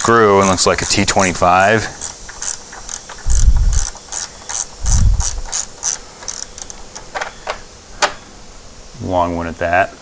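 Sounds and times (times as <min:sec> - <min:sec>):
ratcheting driver clicking: 0:00.0 - 0:08.2.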